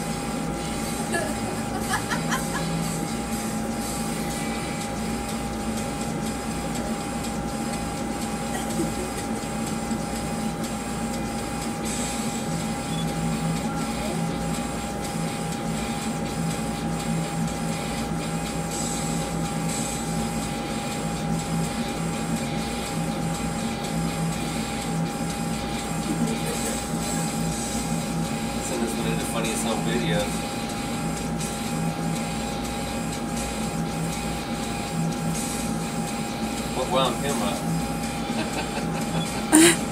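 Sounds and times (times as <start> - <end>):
pulsing mechanical hum with whine: 0.0 - 39.9.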